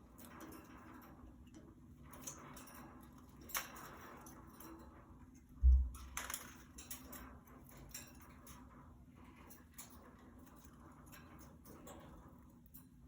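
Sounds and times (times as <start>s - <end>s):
budgies clicking and tapping in cage: 0.0s - 13.0s.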